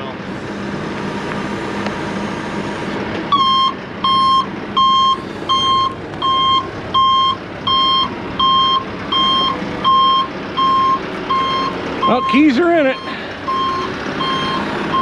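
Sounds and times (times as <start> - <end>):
engine running: 0.0 - 15.0
vehicle backup alarm beeping: 1.1 - 15.0.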